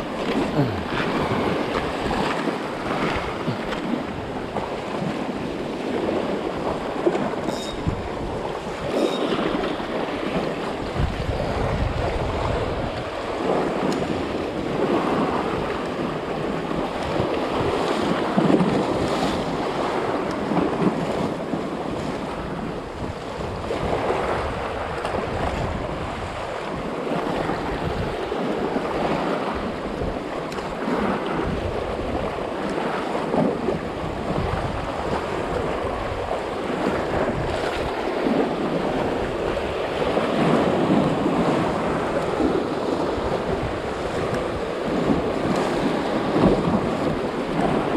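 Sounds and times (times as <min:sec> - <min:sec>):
waves splashing against rocks: 0:00.0 - 0:47.9
wind buffeting microphone: 0:00.0 - 0:47.9.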